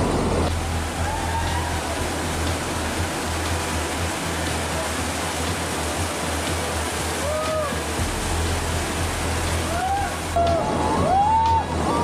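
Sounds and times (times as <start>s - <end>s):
background music with low bass: 0.0s - 12.0s
whitewater rapids rushing: 0.0s - 12.0s.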